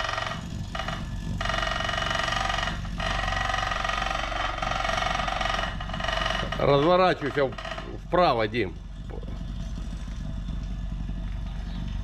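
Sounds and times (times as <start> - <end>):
plate compactor buzzing rattle: 0.0 - 12.0.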